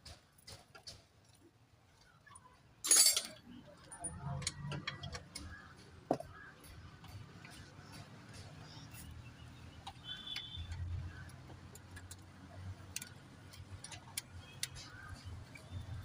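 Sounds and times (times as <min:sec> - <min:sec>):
hand tools clicking and tapping: 0:00.0 - 0:01.5, 0:04.1 - 0:16.0.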